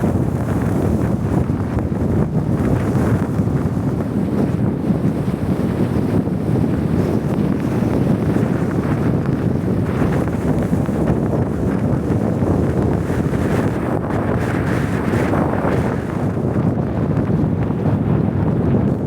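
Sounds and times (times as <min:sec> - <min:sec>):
strong blizzard wind: 0:00.0 - 0:19.0.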